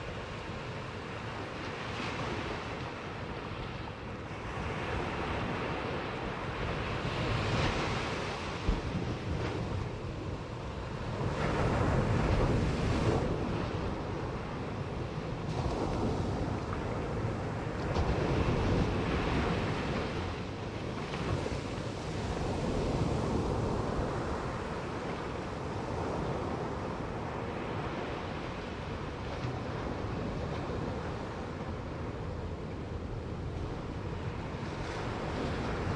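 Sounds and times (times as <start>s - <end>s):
ocean surf breaking on beach: 0.0s - 35.9s.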